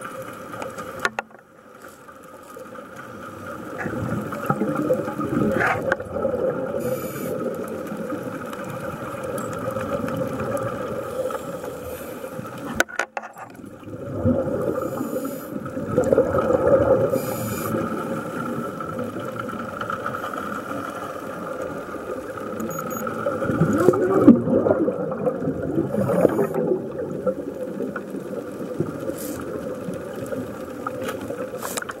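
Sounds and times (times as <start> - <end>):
underwater hum: 0.0 - 32.0
bubbling: 2.6 - 32.0.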